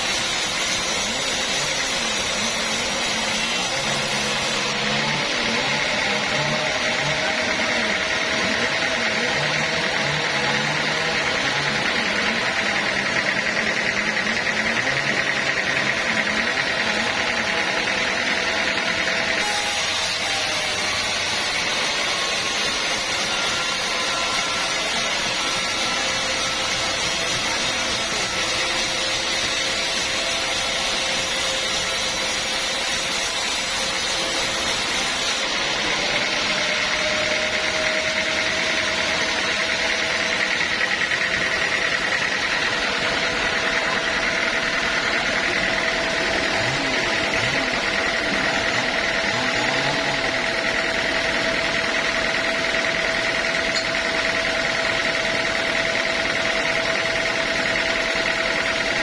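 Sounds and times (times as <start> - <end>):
sawmill saw cutting log: 0.0 - 59.0.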